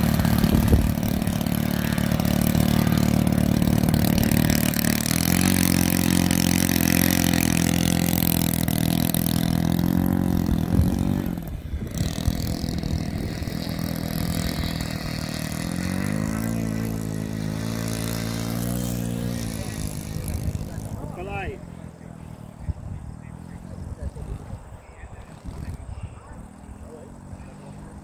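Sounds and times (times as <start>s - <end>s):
model airplane engine running: 0.0s - 28.0s.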